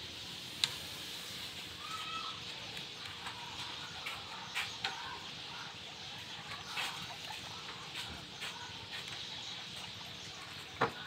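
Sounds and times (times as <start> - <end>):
guinea pigs moving on wire mesh: 0.6 - 11.0
guinea pig squeak: 1.8 - 10.8.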